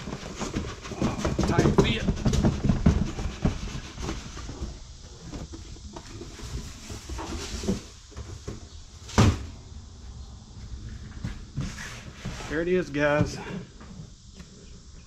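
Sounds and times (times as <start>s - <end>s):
cardboard box scraping and rustling: 0.0s - 9.4s, 10.9s - 14.2s.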